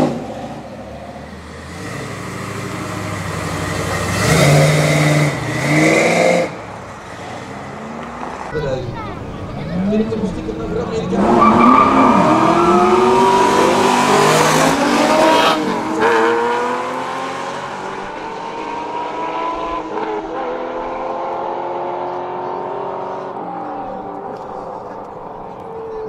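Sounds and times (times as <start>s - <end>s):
race car engines at full throttle: 0.0s - 26.0s.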